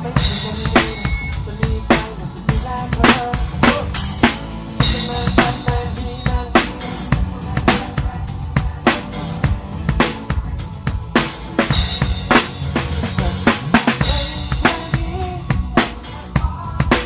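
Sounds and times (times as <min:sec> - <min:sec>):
band playing: 0:00.0 - 0:17.0
drum kit beat: 0:00.0 - 0:17.0.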